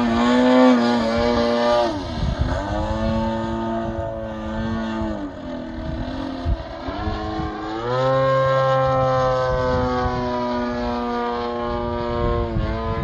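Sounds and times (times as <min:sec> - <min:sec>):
model airplane motor and propeller: 0:00.0 - 0:13.0.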